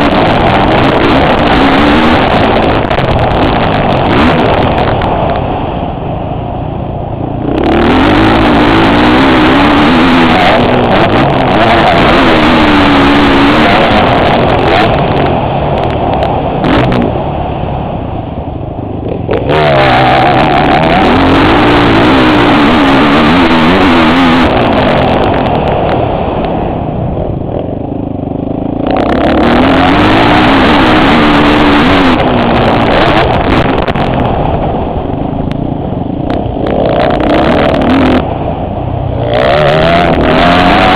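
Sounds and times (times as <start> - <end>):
motocross bike engine revving: 0.0 - 5.6, 6.8 - 17.4, 19.0 - 26.7, 27.4 - 40.9
wind noise on microphone: 0.0 - 40.9.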